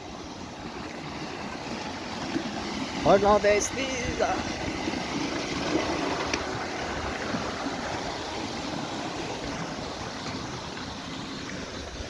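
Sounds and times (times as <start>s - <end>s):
river water pouring over rocks: 0.0s - 12.0s.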